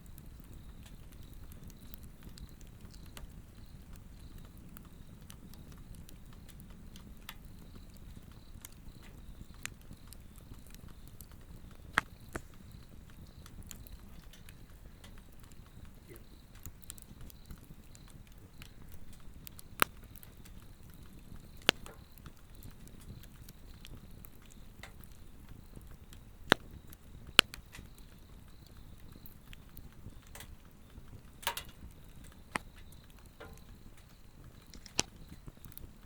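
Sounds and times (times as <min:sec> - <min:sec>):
log fire crackling and popping: 0:00.0 - 0:36.0.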